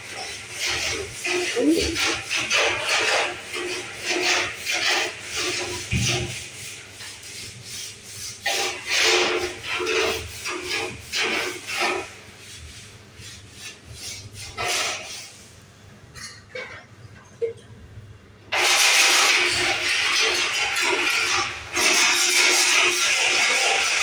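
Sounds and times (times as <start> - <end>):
scrubbing wet concrete floor: 0.0 - 15.6, 18.5 - 24.0.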